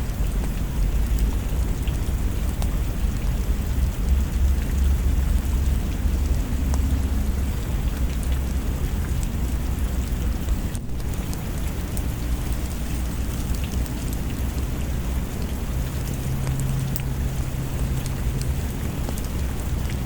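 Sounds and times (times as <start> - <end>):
deep continuous rumble: 0.0 - 20.0
steady rain falling: 0.0 - 20.0.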